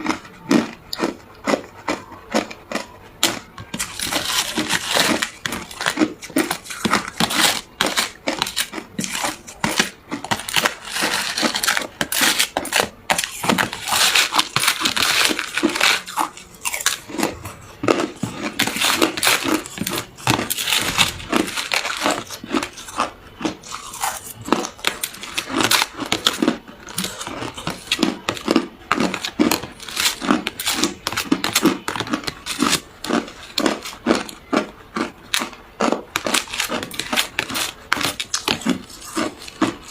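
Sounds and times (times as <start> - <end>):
person chewing ice crunching: 0.0 - 39.9.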